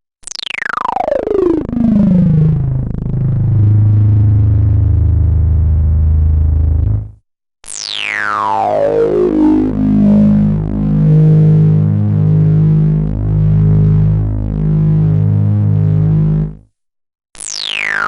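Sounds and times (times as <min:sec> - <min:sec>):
low buzzy synthesizer note: 0:01.0 - 0:07.2, 0:08.4 - 0:16.6.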